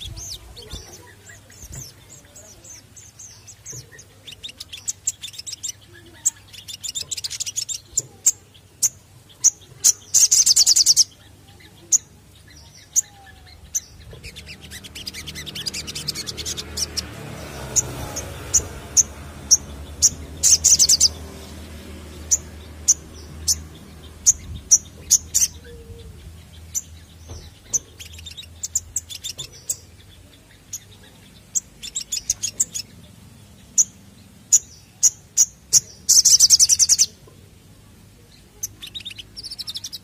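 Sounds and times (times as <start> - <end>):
buzzy bird trill: 0.0 - 37.2
bird chirping: 0.0 - 40.0.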